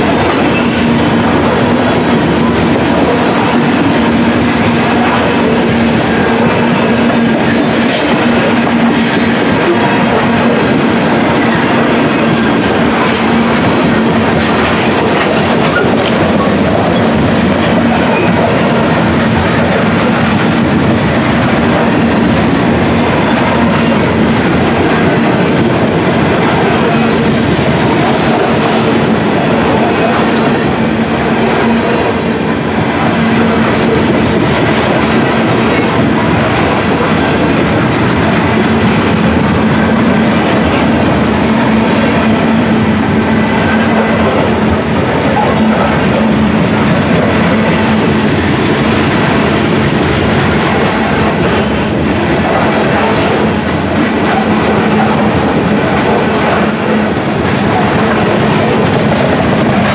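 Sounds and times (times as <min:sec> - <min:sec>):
clickety-clack over rail joints: 0:00.0 - 0:59.9
train wheels rumbling on rail: 0:00.0 - 0:59.9.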